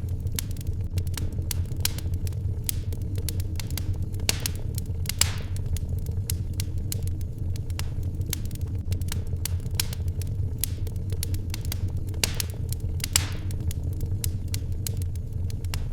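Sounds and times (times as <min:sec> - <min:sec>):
low rumble: 0:00.0 - 0:15.9
wood fire crackling and popping: 0:00.0 - 0:15.9.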